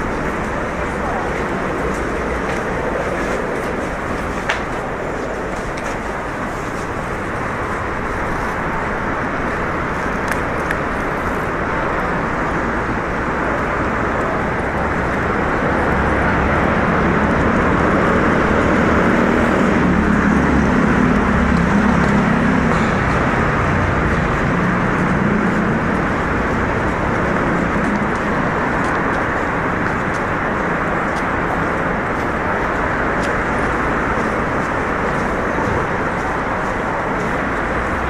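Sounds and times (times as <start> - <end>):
rush of passing cars: 0.0 - 38.0
vehicle engine rumble: 0.0 - 38.0.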